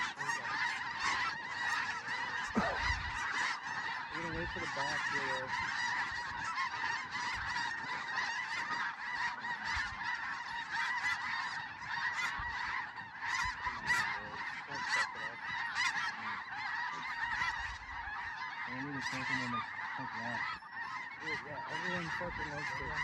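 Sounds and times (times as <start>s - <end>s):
flock of geese honking: 0.0s - 23.0s
single goose calls: 0.0s - 23.0s.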